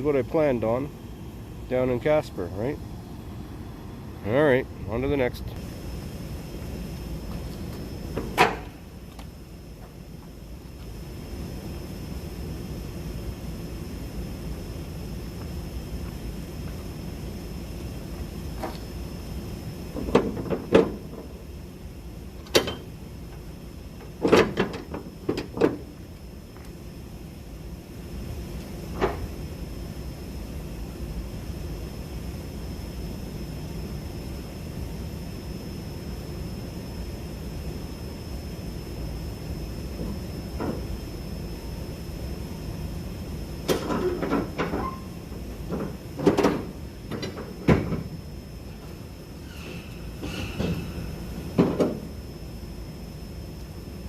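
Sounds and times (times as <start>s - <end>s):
low steady rumble: 0.0s - 47.2s.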